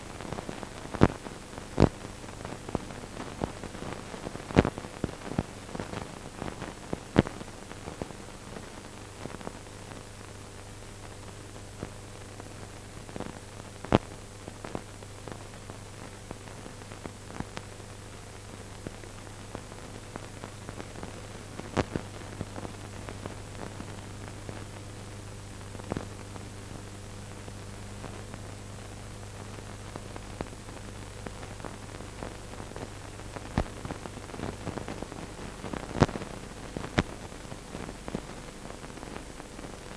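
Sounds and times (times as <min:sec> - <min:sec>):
film surface hiss: 0:00.0 - 0:39.9.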